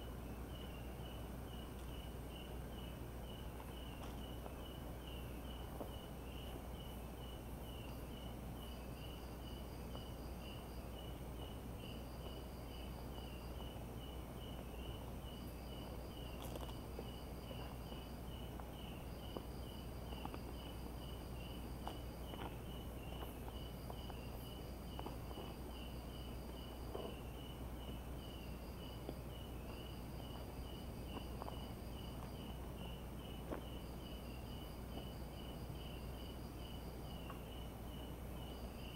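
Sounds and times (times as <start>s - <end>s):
crickets chirping: 0.0s - 38.9s
low steady hum: 0.0s - 38.9s.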